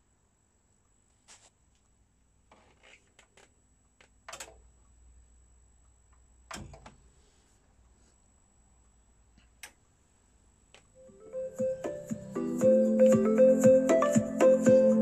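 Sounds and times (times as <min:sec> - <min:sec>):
faint low hum: 0:00.0 - 0:12.4.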